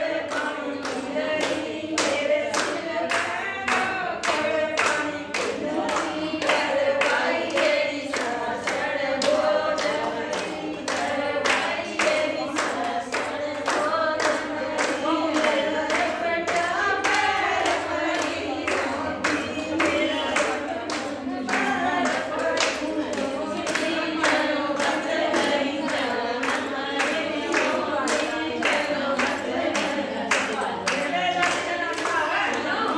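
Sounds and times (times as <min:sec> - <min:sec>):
rhythmic hand-clapping: 0:00.0 - 0:32.9
women singing folk song: 0:00.0 - 0:32.9.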